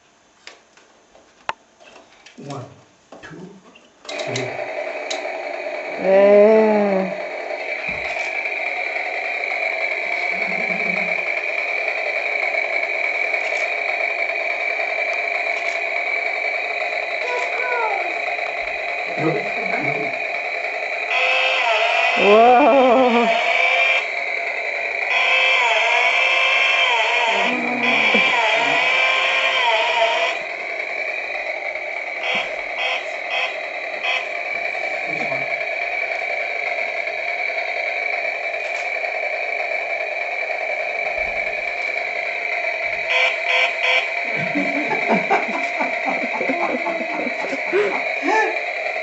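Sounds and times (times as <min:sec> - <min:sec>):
toy chainsaw motor buzzing: 0:04.1 - 0:49.0.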